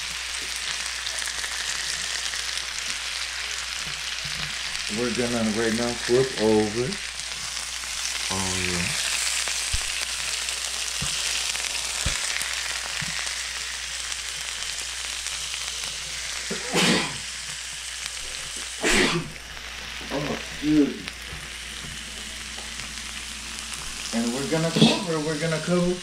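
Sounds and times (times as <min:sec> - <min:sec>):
steaks sizzling on electric grill: 0:00.0 - 0:26.0.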